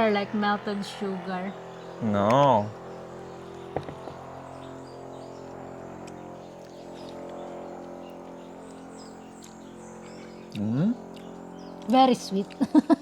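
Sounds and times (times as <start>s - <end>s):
steady mechanical hum: 0.0s - 13.0s
faint bird chirps: 0.6s - 12.6s.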